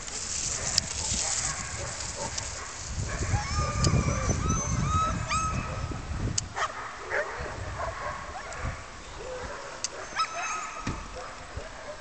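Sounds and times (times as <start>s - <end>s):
dogs yelping and barking: 0.5s - 6.0s, 6.6s - 12.0s.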